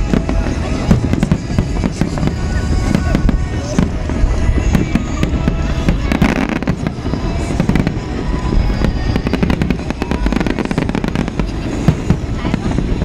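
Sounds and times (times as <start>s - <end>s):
fireworks bangs and crackles: 0.0s - 13.0s
low rumble: 0.0s - 13.0s
music: 0.0s - 13.0s.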